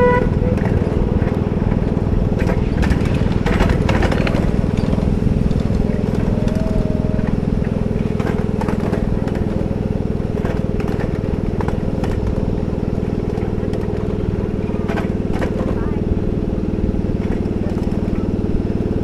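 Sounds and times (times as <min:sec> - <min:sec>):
miniature train rumbling: 0:00.0 - 0:19.0
wheels clicking on rails: 0:00.0 - 0:19.0.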